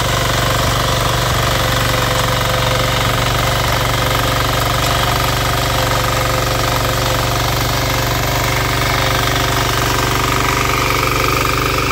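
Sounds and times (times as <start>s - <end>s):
power weeder engine running: 0.0s - 11.9s
tines churning soil: 0.0s - 11.9s.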